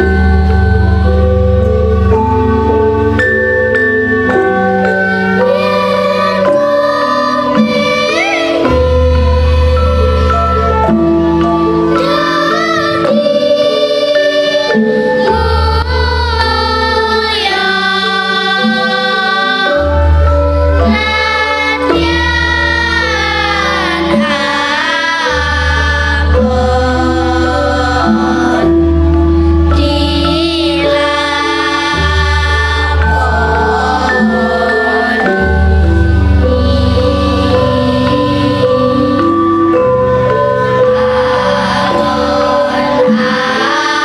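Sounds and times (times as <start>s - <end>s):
girls choir singing: 0.0s - 1.2s, 4.5s - 44.0s
instrumental accompaniment: 0.0s - 44.0s.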